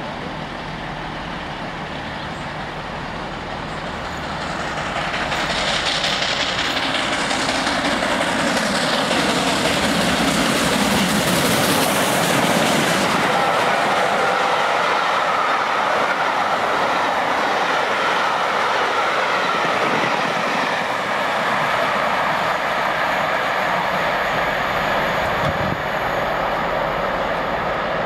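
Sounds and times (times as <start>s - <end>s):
steam train rushing past: 0.0s - 28.0s.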